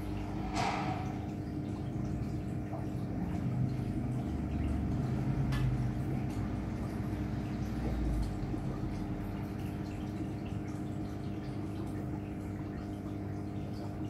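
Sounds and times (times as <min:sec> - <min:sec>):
aquarium pump humming: 0:00.0 - 0:14.0
water trickling and dripping: 0:00.0 - 0:14.0.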